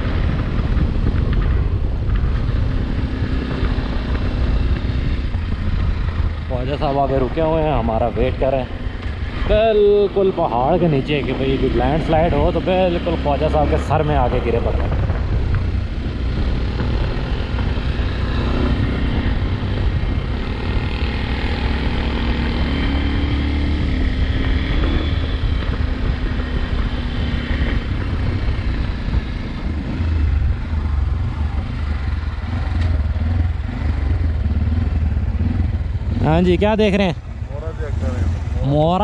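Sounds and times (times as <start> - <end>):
motorcycle engine running: 0.0 - 39.0
wind rushing over microphone: 0.0 - 39.0.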